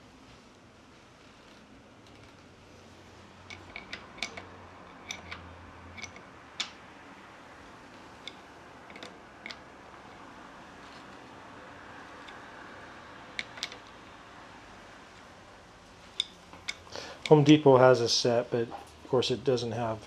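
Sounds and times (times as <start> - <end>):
faint steady background noise: 0.0 - 20.0.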